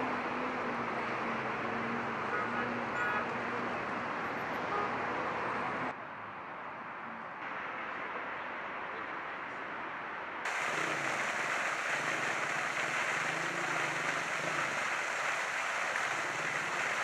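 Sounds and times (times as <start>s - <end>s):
outdoor traffic noise: 0.0s - 17.0s
road traffic engine hum: 0.0s - 17.0s.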